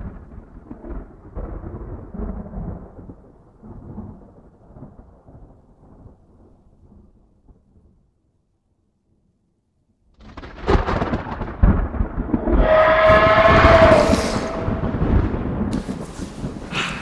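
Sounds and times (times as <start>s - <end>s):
deep thunder-like rumble: 0.0s - 8.0s, 10.2s - 17.0s.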